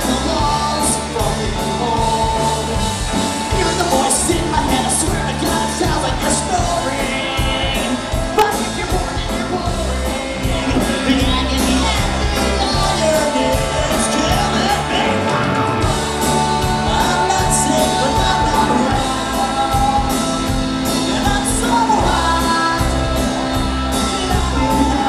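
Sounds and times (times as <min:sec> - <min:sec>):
bass guitar: 0:00.0 - 0:25.0
drums: 0:00.0 - 0:25.0
electric guitars: 0:00.0 - 0:25.0
person singing into a microphone: 0:00.0 - 0:25.0.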